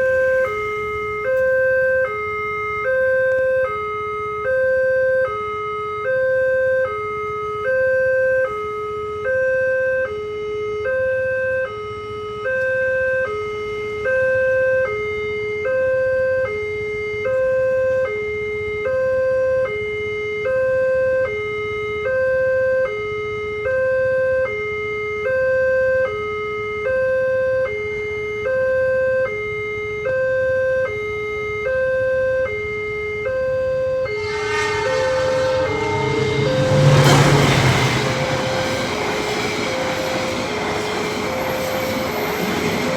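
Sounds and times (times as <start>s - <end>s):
electronic hi-lo warning siren: 0.0s - 42.9s.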